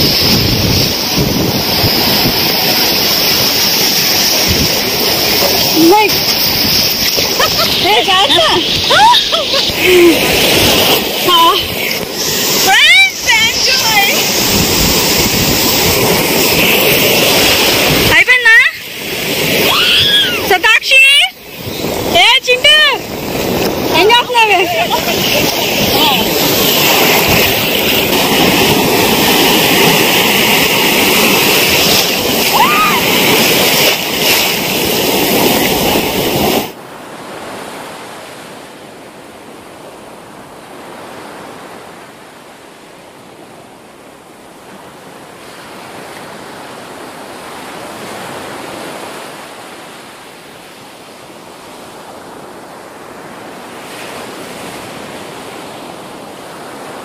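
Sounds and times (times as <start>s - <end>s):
ocean surf washing: 0.0s - 57.0s.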